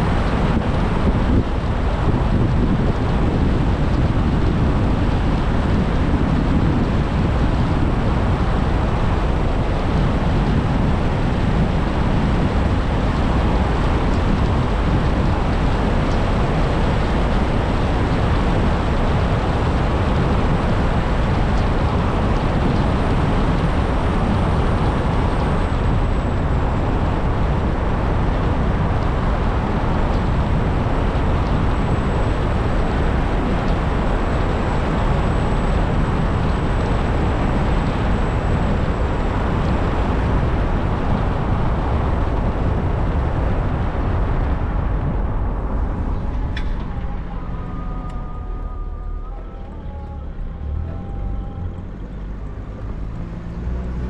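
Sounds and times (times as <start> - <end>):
car road and wind noise: 0.0 - 54.0.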